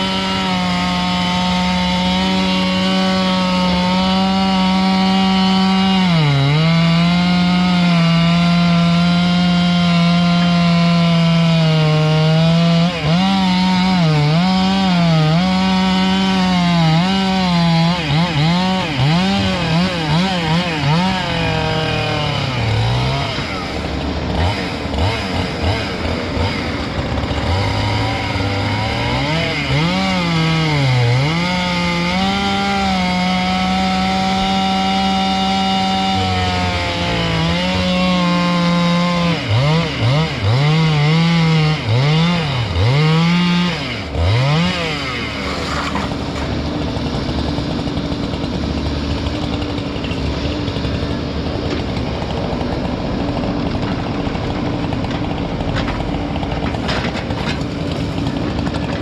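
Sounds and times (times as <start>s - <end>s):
chainsaw revving while cutting log: 0.0s - 59.0s.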